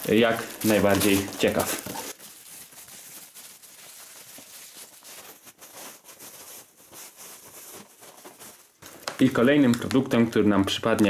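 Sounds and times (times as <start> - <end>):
packaging rustling and clicking: 0.0 - 10.2.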